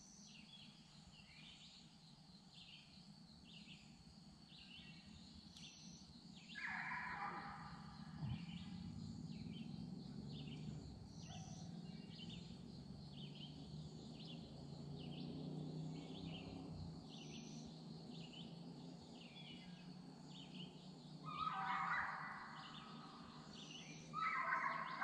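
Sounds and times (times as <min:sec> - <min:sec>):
bird chirping: 0:04.5 - 0:25.0.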